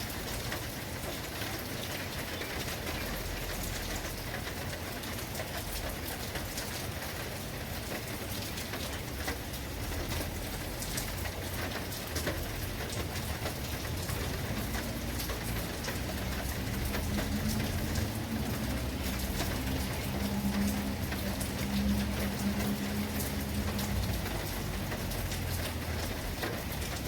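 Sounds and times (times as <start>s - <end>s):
rain drops hitting a surface: 0.0s - 27.0s.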